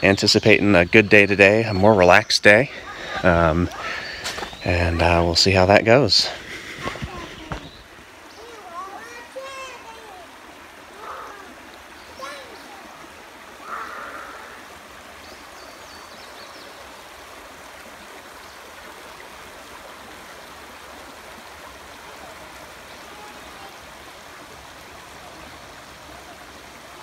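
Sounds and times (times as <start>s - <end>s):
creek water rushing over stones: 0.0s - 27.0s.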